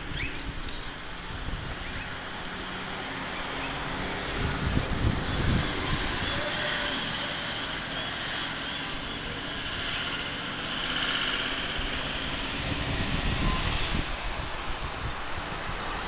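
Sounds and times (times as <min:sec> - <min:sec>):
road traffic rumbling: 0:00.0 - 0:16.0
wind buffeting microphone: 0:00.0 - 0:16.0.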